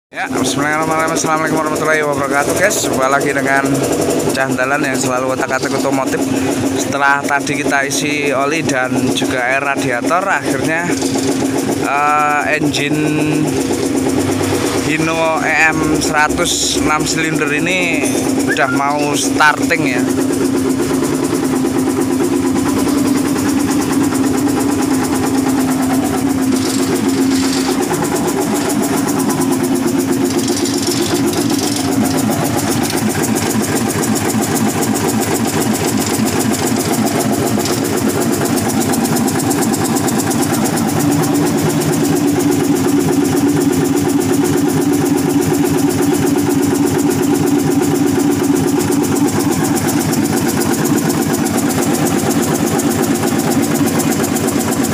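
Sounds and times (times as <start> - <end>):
diesel engine idling: 0.2 - 54.9.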